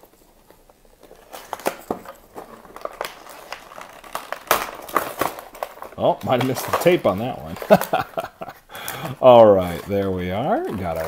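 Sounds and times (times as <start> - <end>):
loud plastic crack: 0.0 - 9.2
plastic packaging crinkling: 0.0 - 11.0.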